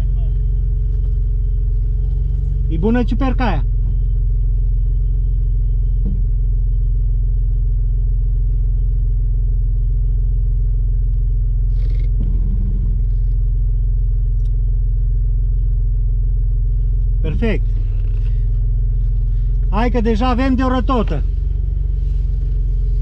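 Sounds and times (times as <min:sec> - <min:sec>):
engine idling inside cab: 0:00.0 - 0:23.0.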